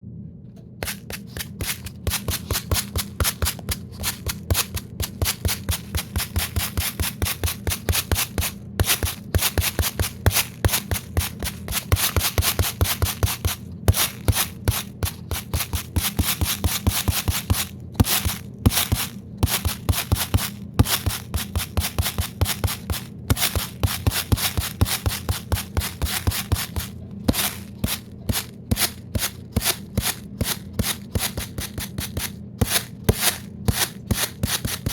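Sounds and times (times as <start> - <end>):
steady low hum: 0.0 - 34.9
rapid scratching strokes: 0.8 - 34.9.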